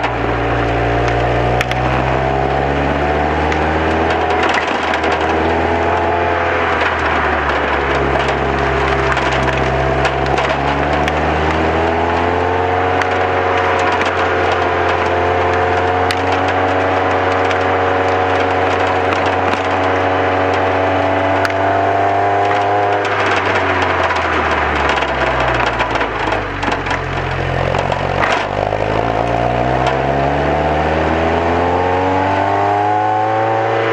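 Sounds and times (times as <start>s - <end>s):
car engine under load: 0.0s - 33.9s
rushing wind and road noise: 0.0s - 33.9s.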